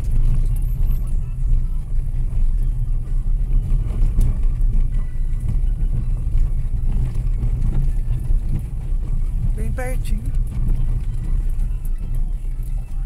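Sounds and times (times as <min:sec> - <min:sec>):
car rumbling on dirt road: 0:00.0 - 0:13.0.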